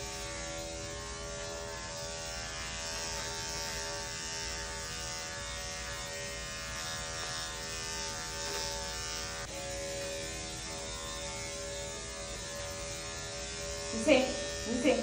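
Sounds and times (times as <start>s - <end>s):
electric clippers running: 0.0s - 15.0s.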